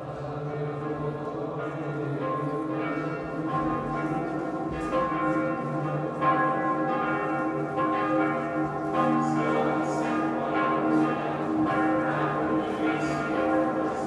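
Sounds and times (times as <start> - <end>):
church bells pealing: 0.3 - 14.0.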